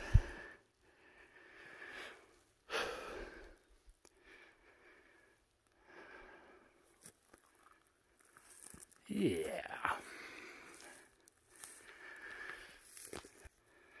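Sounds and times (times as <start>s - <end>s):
man breathing heavily: 0.0s - 7.0s, 9.7s - 14.0s.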